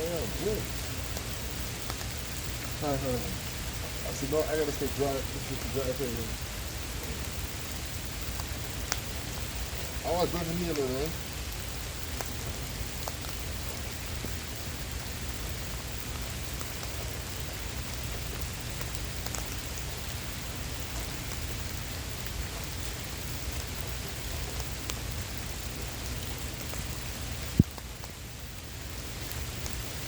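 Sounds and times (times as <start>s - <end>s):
raindrops ticking near microphone: 0.0s - 30.0s.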